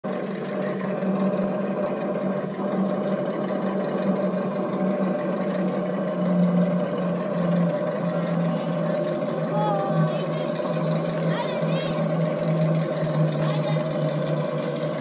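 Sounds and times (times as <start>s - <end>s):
motor humming steadily: 0.0s - 15.0s.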